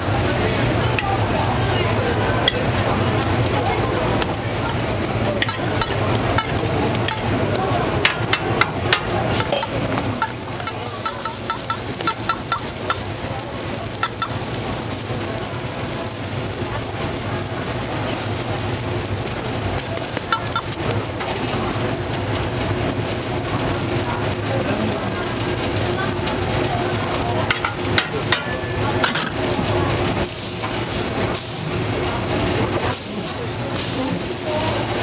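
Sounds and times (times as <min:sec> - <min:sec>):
pancakes sizzling in oil: 0:00.0 - 0:35.0.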